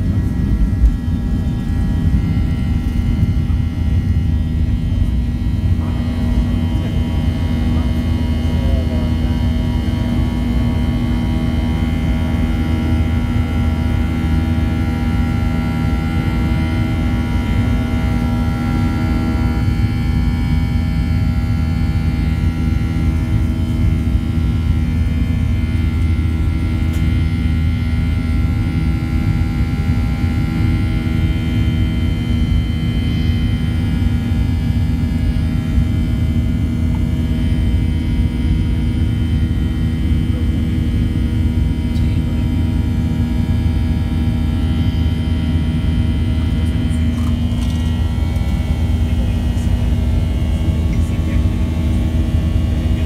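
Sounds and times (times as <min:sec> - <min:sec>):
airplane engines in cabin: 0:00.0 - 0:53.0.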